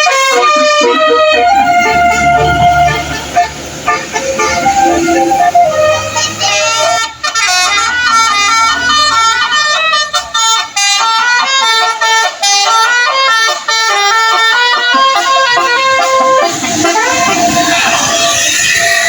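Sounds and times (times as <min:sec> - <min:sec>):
musical air horns melody: 0:00.0 - 0:19.0.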